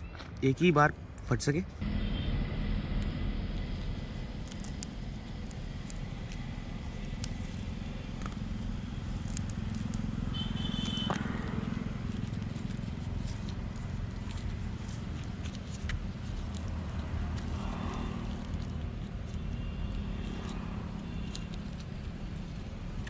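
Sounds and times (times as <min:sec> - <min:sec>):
low outdoor rumble: 0:00.9 - 0:23.0
faint rustles and clicks: 0:03.4 - 0:23.0.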